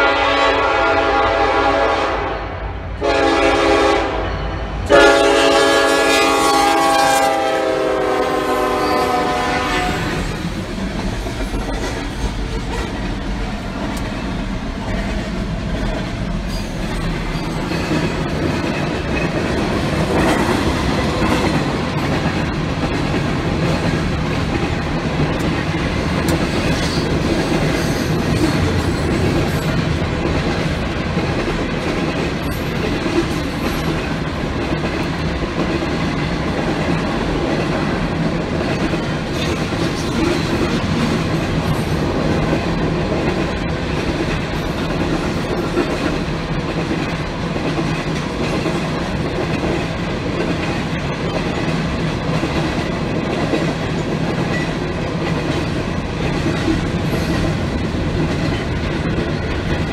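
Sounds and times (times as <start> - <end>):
train wheels clattering on rails: 4.9 - 59.9.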